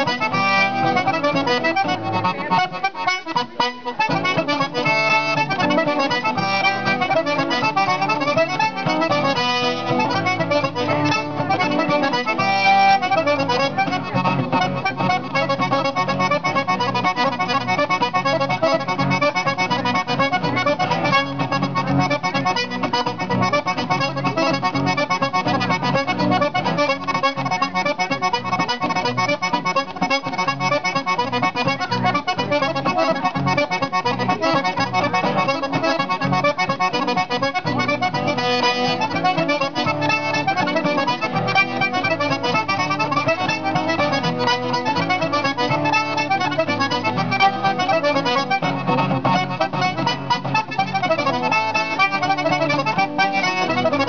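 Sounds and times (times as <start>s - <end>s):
acoustic guitar accompaniment: 0.0s - 54.0s
button accordion playing: 0.0s - 54.0s.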